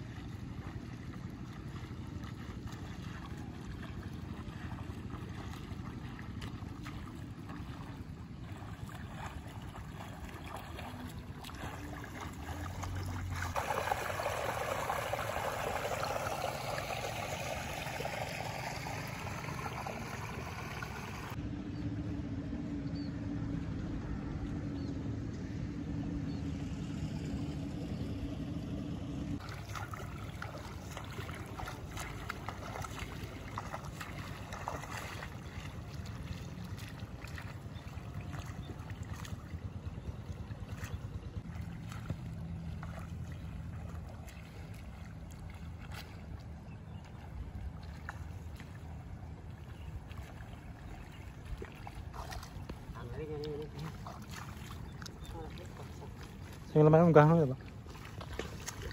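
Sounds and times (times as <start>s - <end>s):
steady low engine hum: 0.0s - 58.9s.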